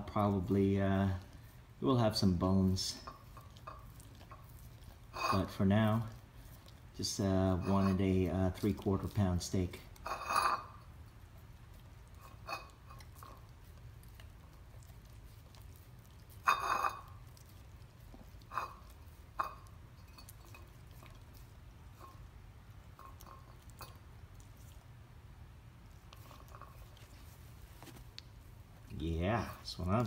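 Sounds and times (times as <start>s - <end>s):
steady low hum: 0.0s - 30.0s
dog licking wet mouth sounds: 0.2s - 10.0s, 10.8s - 30.0s.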